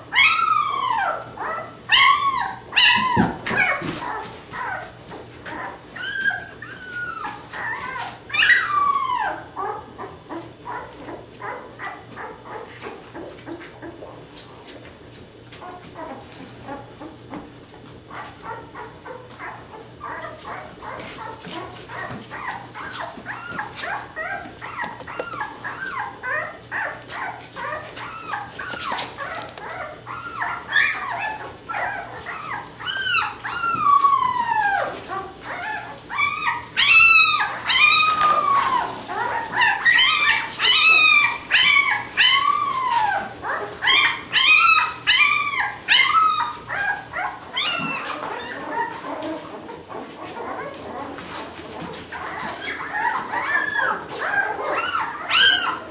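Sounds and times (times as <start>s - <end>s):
puppies crying and squealing: 0.0s - 14.8s, 15.5s - 55.9s.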